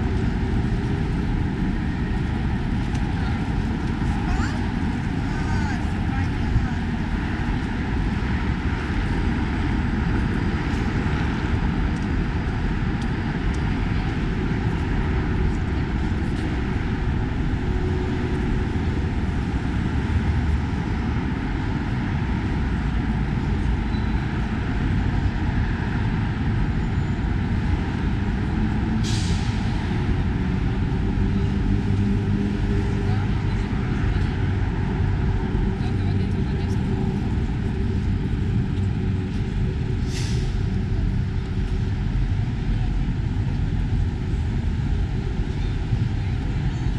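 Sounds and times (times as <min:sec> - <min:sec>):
rumble of passing vehicles: 0:00.0 - 0:46.9
voices of passers-by: 0:00.0 - 0:46.9.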